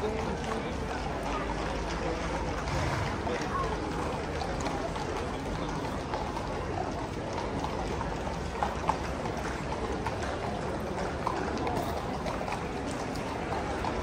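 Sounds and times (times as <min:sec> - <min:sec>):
horse hooves on pavement: 0:00.0 - 0:14.0
street crowd murmur: 0:00.0 - 0:14.0.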